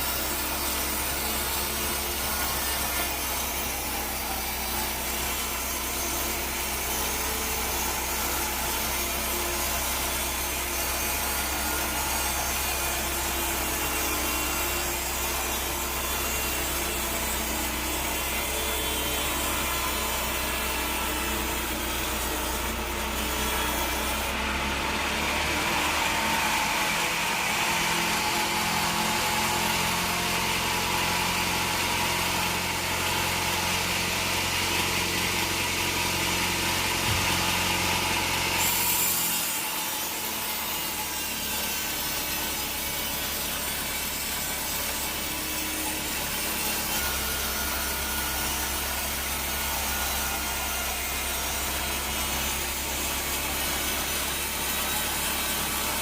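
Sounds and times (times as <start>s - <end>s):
band saw blade rasping: 0.0s - 56.0s.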